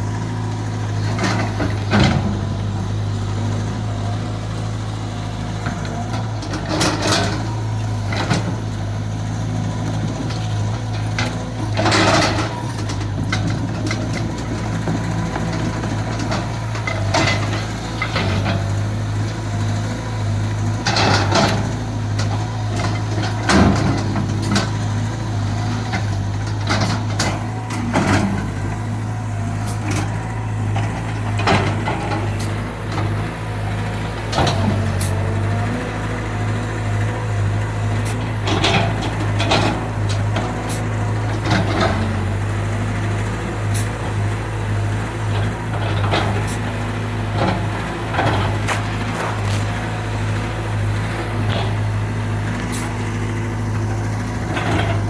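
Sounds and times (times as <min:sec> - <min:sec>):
excavator diesel engine humming: 0:00.0 - 0:55.0
working machine noises: 0:00.0 - 0:55.0.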